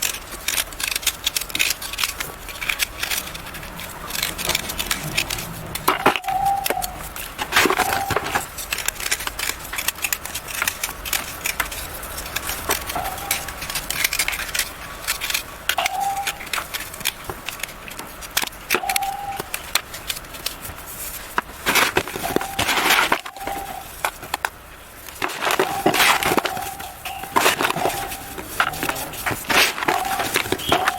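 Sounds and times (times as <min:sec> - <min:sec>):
chalk crunching and crackling: 0:00.0 - 0:30.9.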